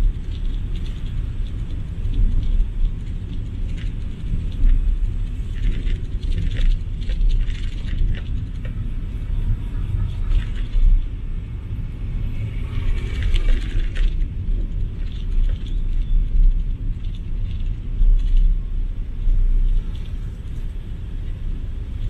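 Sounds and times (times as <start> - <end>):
car engine and road rumble: 0.0 - 22.0
light rattles and clicks: 0.0 - 22.0.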